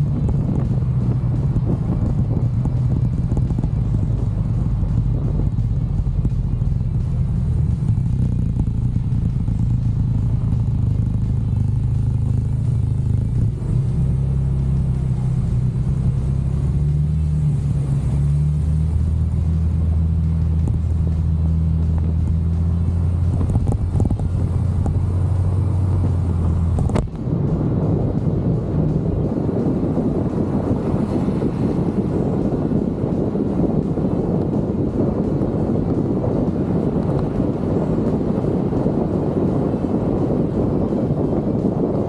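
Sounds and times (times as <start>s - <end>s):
scooter engine droning: 0.0s - 42.0s.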